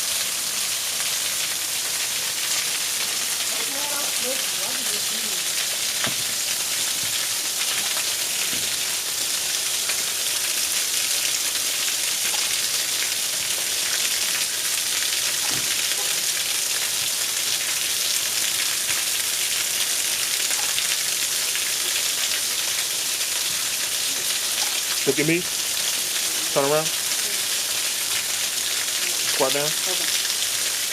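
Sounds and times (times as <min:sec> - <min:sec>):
waterfall splashing: 0:00.0 - 0:30.9.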